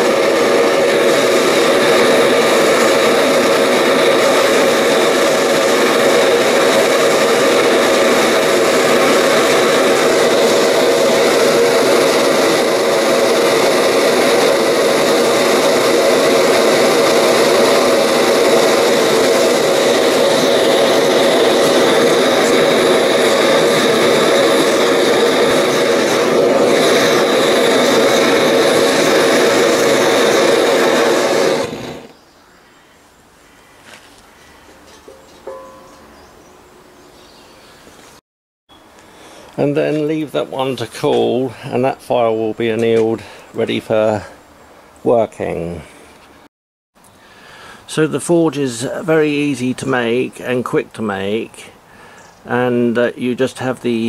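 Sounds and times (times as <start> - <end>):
propane torch flame rushing: 0.0 - 32.2, 39.0 - 46.5, 47.4 - 54.0.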